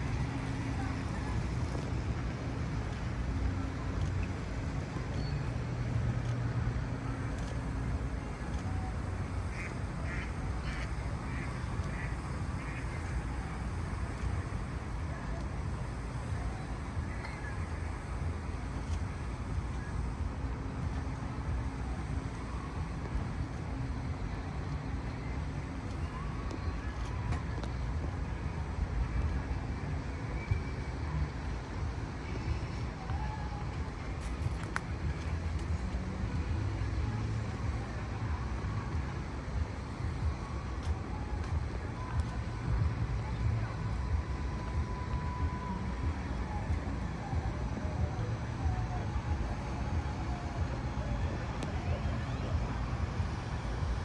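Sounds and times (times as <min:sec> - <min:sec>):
low rumble of city traffic: 0:00.0 - 0:54.0.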